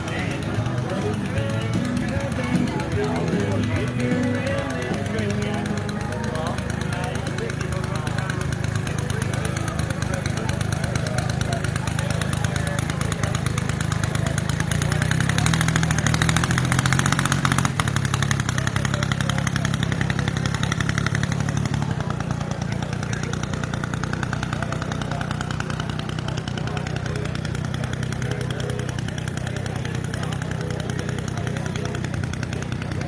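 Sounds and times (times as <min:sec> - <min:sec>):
model airplane engine running: 0:00.0 - 0:33.0.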